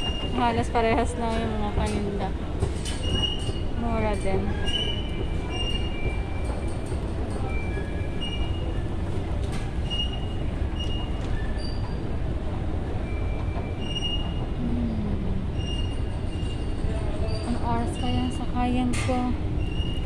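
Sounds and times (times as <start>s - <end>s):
bus station hall rumble: 0.0s - 20.0s.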